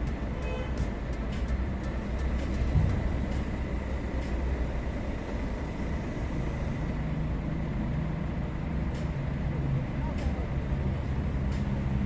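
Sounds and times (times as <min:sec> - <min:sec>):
crane engine running: 0:00.0 - 0:12.0.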